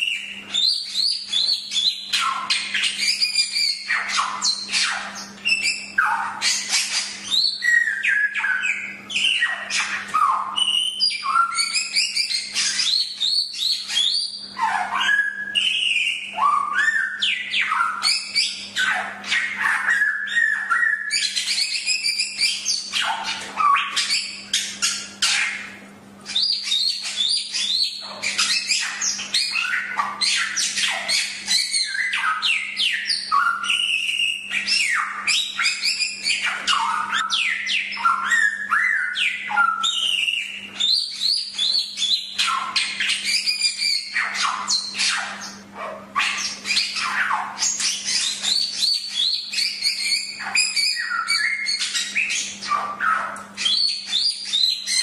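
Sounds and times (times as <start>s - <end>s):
bird whistling song: 0.0s - 55.0s
harsh bird chattering calls: 0.0s - 55.0s.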